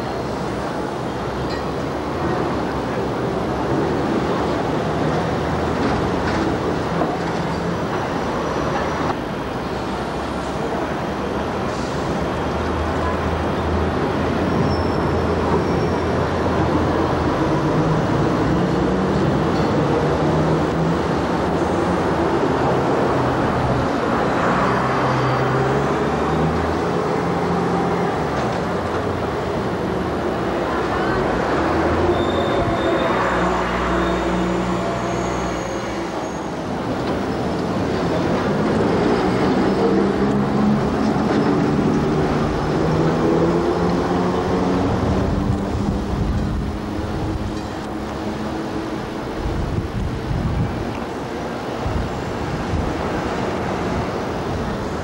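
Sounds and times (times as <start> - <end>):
street traffic noise: 0.0 - 55.0.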